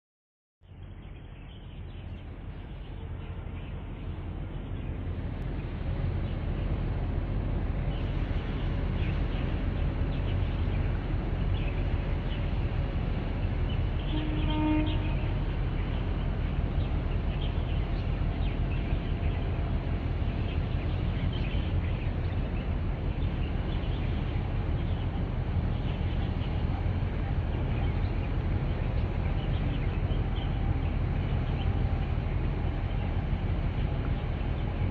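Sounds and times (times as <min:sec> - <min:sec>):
ship diesel engine rumble: 0:00.7 - 0:34.9.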